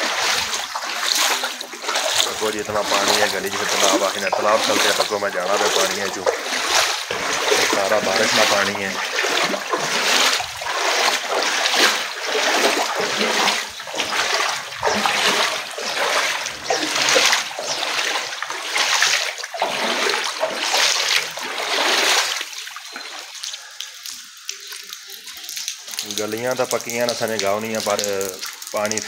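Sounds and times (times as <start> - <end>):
footsteps splashing through water: 0.0 - 29.0.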